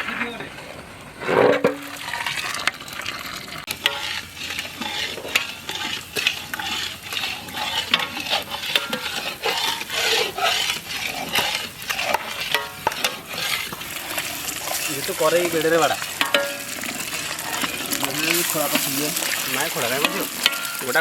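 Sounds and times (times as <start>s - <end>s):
hot oil sizzling: 0.0s - 21.0s
spatula scraping a pan: 0.0s - 21.0s.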